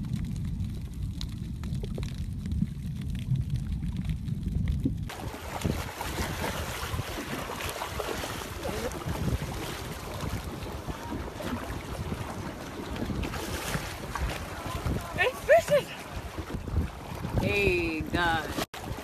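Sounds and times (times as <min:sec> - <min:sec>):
muffled underwater rumble: 0:00.0 - 0:19.0
water splashing and churning: 0:00.0 - 0:19.0
wind noise on microphone: 0:00.0 - 0:19.0.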